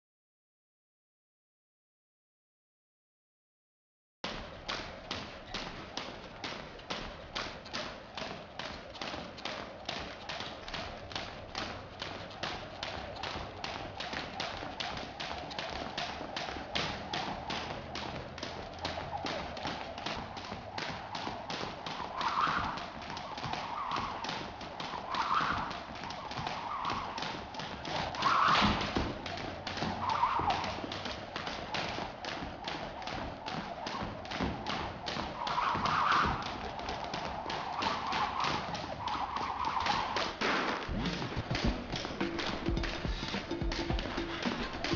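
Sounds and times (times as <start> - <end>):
feet landing: 4.3 - 44.9
jump ropes slapping wooden floor: 4.3 - 44.9.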